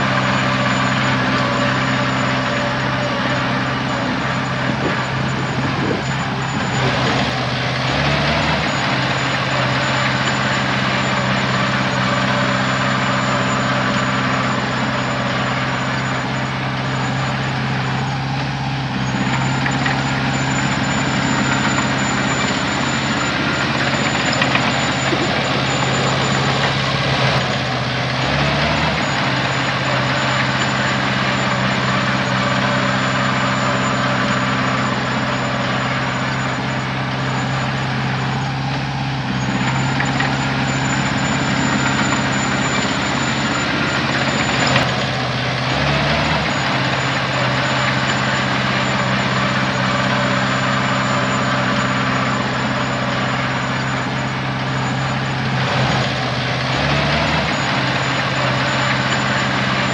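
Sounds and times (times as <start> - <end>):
heavy diesel engine running: 0.0 - 59.9
thin high whine: 0.0 - 59.9.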